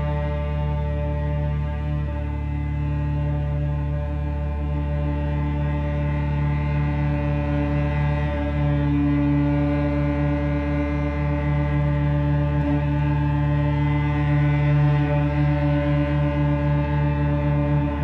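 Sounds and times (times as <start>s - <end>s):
ensemble drone chord: 0.0s - 18.0s.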